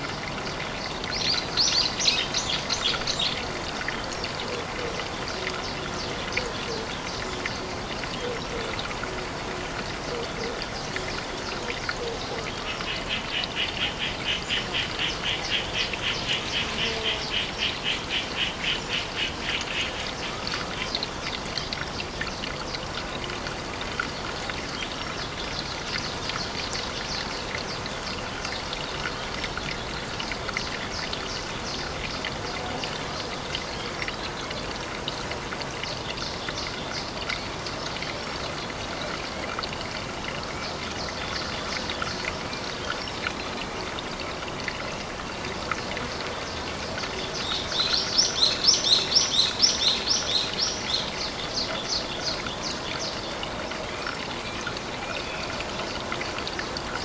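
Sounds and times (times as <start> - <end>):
fine ticks and drips: 0.0 - 57.0
water trickling and pattering: 0.0 - 57.0.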